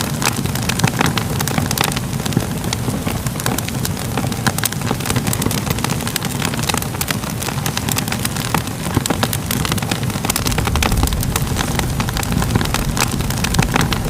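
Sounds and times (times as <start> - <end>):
fire burning roar: 0.0 - 14.0
wood popping and snapping: 0.0 - 14.0.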